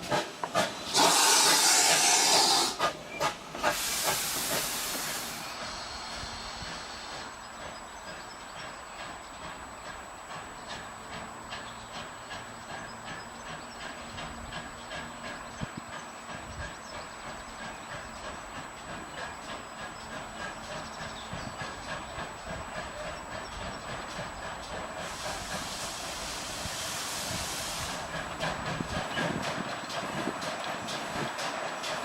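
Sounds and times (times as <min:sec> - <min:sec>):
steam hissing: 0:00.0 - 0:32.0
steam locomotive exhaust beats: 0:00.0 - 0:32.0.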